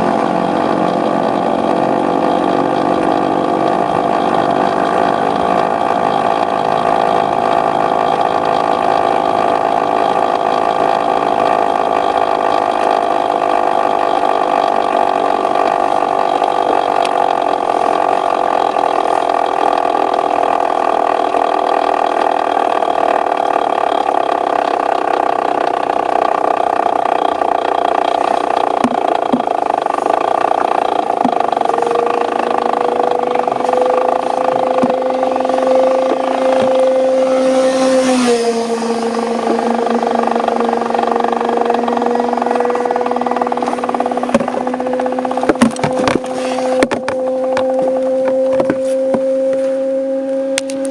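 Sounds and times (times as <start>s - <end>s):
two-stroke motorcycle engine running: 0.0s - 50.9s.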